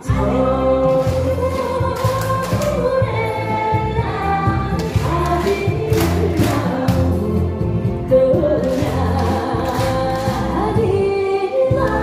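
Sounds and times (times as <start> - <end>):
group of voices singing: 0.0 - 12.0
upbeat music: 0.0 - 12.0.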